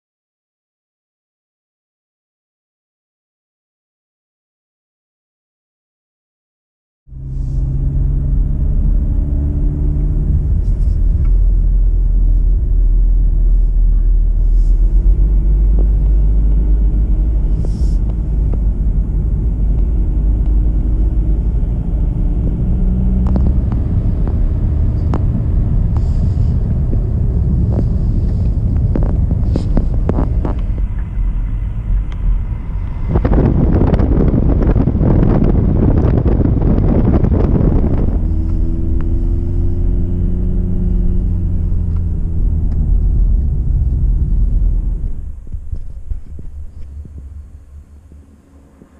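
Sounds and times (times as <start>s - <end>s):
car engine and road rumble: 7.1s - 48.9s.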